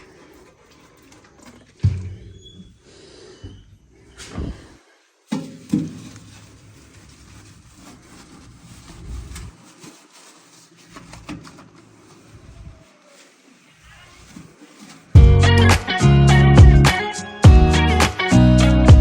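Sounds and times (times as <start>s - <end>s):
sponge rubbing microwave: 0.0s - 15.6s.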